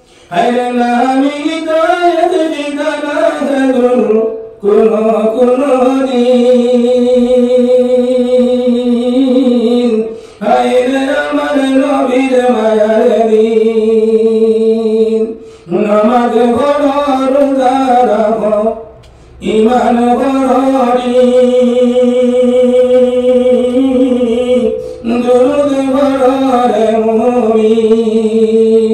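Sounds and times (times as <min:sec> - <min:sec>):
man singing unaccompanied: 0:00.3 - 0:28.9.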